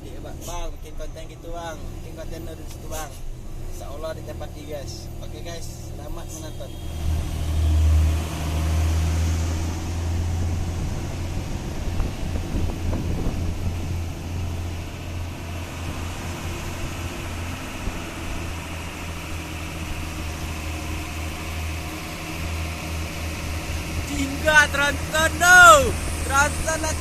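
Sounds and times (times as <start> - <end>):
truck engine humming: 0.0 - 27.0.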